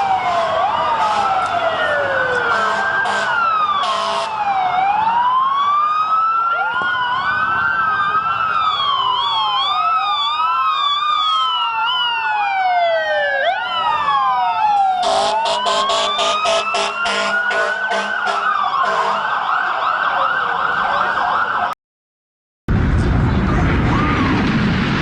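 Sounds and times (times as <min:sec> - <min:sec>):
emergency sirens wailing: 0:00.0 - 0:21.8, 0:22.7 - 0:25.0
siren yelping: 0:00.0 - 0:21.8.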